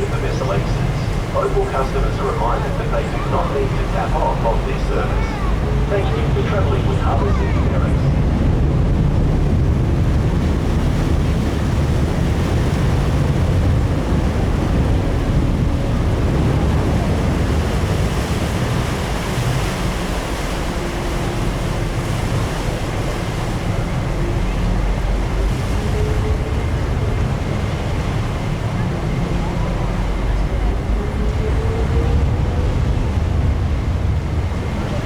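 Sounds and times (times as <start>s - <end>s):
low rumble of ferry: 0.0s - 35.0s
water rushing: 0.0s - 35.0s.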